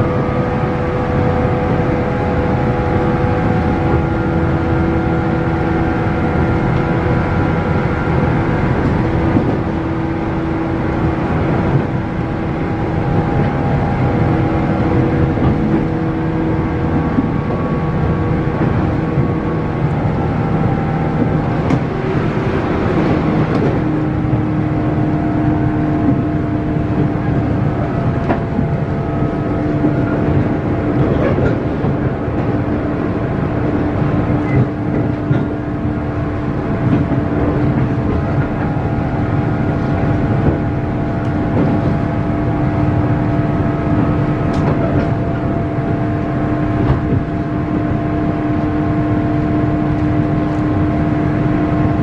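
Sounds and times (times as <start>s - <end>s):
wheels rumbling on rail: 0.0s - 52.0s.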